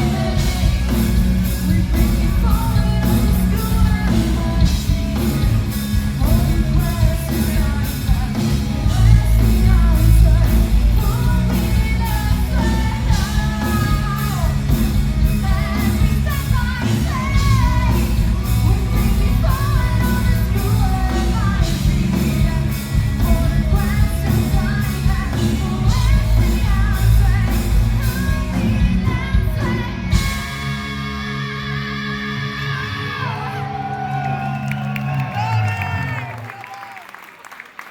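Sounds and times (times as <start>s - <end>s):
person singing: 0.0s - 36.3s
rock band playing: 0.0s - 36.6s.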